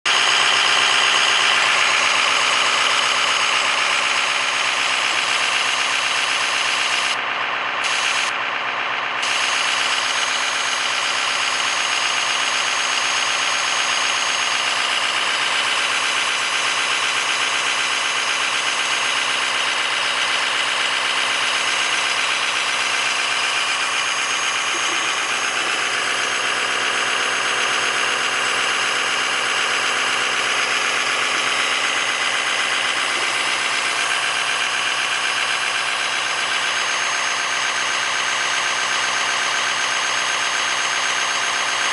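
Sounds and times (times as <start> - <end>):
diesel engine idling: 0.0 - 41.9
exhaust leak pulsing: 0.1 - 7.2, 9.1 - 41.9.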